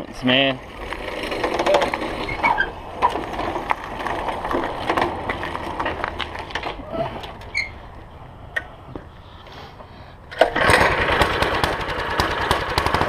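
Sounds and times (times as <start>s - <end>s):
faint background noise: 0.0s - 10.5s.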